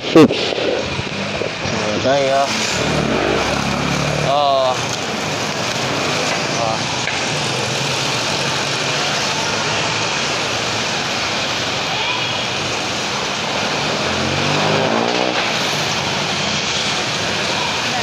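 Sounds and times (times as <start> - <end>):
vehicle engine accelerating: 0.0 - 11.8, 12.7 - 18.0
street traffic: 0.0 - 18.0.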